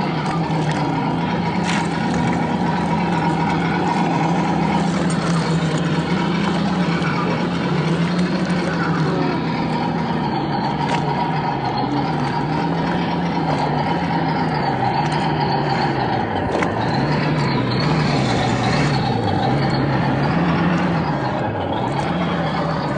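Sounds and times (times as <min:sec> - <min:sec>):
shallow river rushing: 0:00.0 - 0:22.9.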